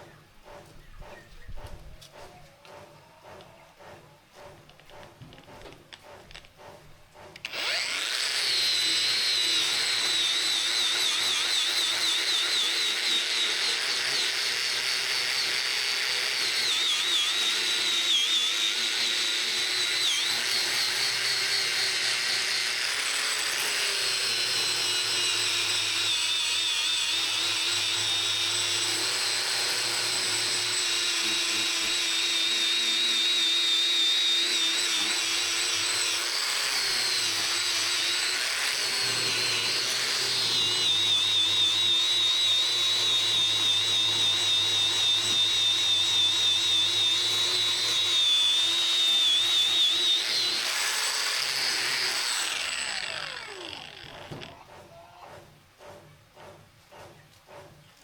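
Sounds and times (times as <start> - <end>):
power tool whining on metal: 6.0 - 55.6.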